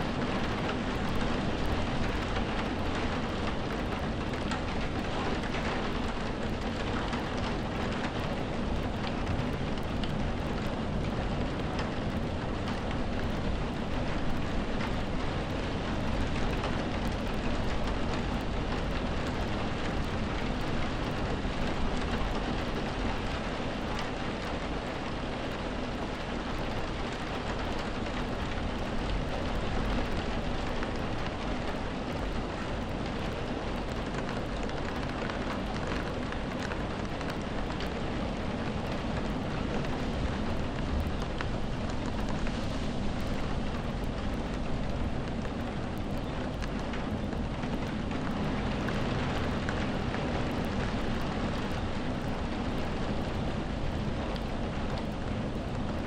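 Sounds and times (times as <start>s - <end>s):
raindrop ticks: 0.0s - 56.0s
steady rain hiss: 0.0s - 56.0s.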